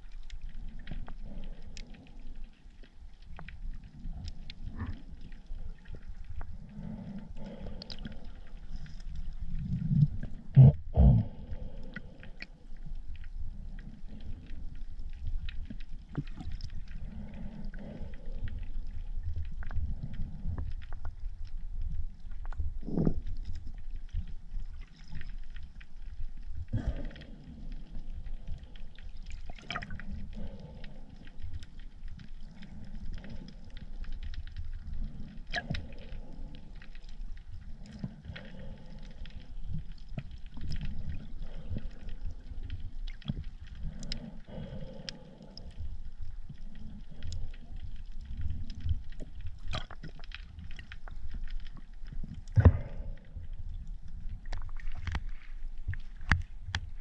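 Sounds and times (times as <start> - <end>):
underwater clicks and crackles: 0.0 - 57.0
underwater rumble: 0.0 - 57.0
water swishes: 0.0 - 57.0.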